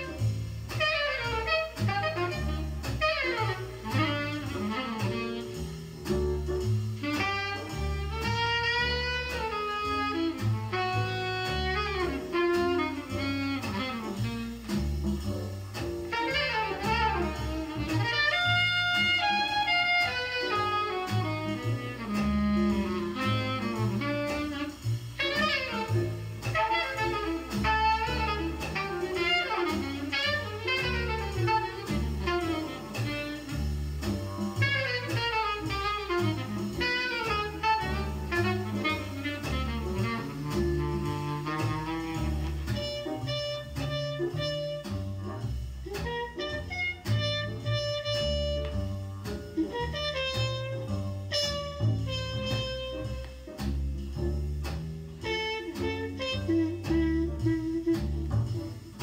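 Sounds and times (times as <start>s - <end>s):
saxophone solo: 0.0s - 54.5s, 55.2s - 59.0s
double bass: 0.0s - 59.0s
drums: 0.0s - 59.0s.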